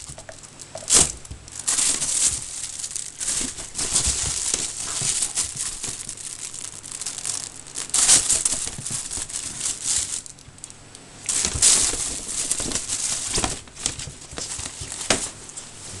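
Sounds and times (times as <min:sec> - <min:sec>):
fabric tunnel crinkling: 0:00.0 - 0:16.0.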